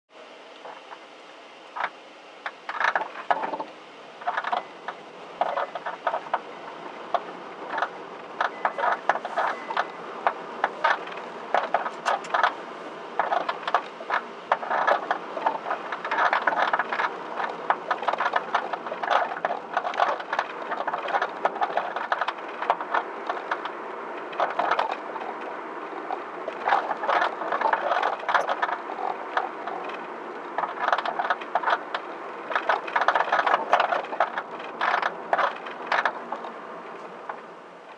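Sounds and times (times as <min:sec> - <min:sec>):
suspension clicking and rattling: 0:01.7 - 0:37.9.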